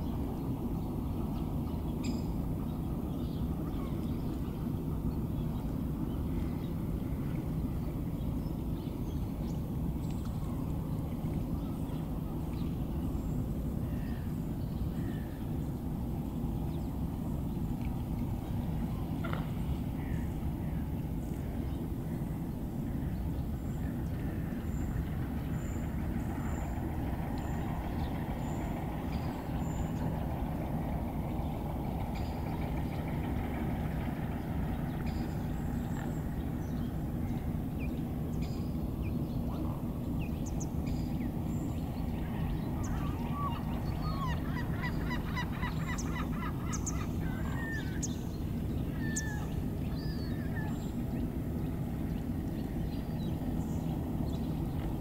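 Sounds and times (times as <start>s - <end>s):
steady low rumble: 0.0s - 55.0s
waterbirds calling: 0.0s - 55.0s.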